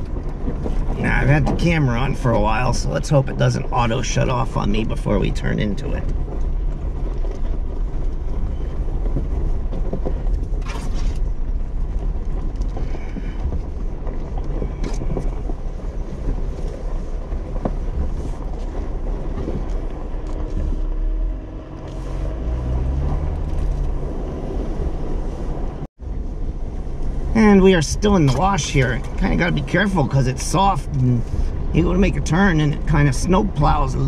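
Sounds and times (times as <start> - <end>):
vehicle rumbling over gravel: 0.0 - 34.0.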